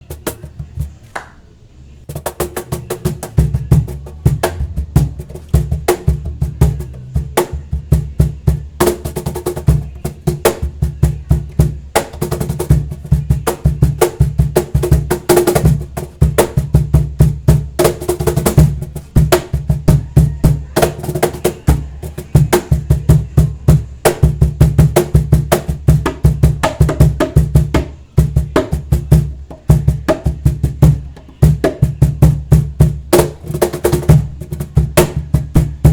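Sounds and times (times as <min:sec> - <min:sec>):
cajon drum rhythm: 0:00.0 - 0:01.4, 0:02.0 - 0:35.9.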